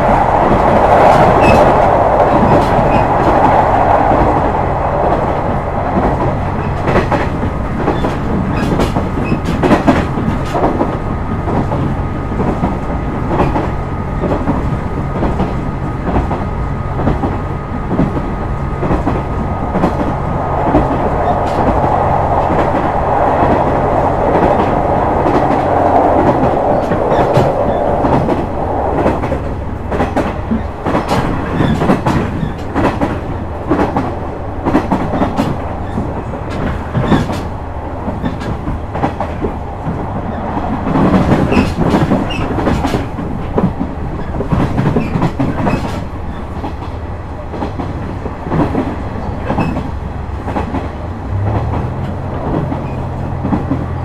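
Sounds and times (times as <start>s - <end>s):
train wheels rumbling: 0.0s - 54.0s
rail-joint clicks: 0.1s - 54.0s.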